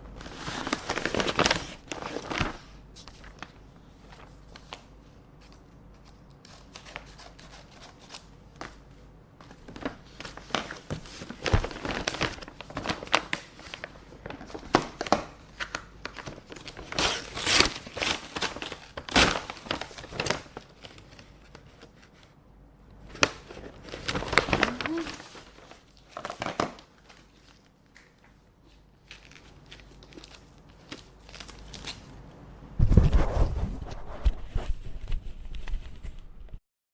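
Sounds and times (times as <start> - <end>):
paper crinkling and rustling: 0.1 - 22.4, 23.0 - 32.2, 32.8 - 36.3.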